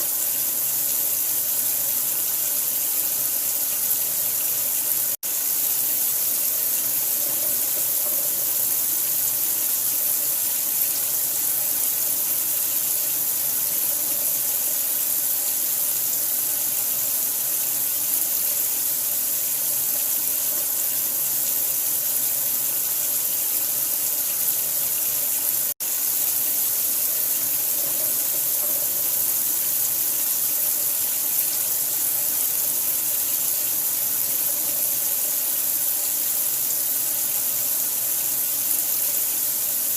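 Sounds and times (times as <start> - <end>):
steady running water: 0.0 - 39.9.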